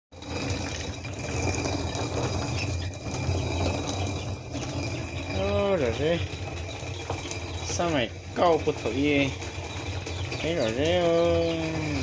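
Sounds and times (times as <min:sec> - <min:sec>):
stone quern grinding: 0:00.1 - 0:12.0.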